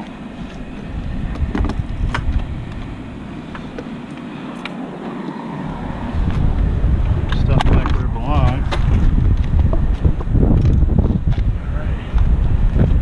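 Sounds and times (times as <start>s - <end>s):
low uneven rumble: 0.0s - 13.0s.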